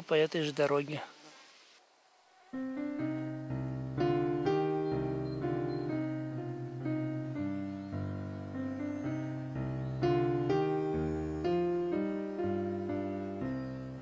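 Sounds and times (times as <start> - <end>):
piano chords: 2.5 - 14.0.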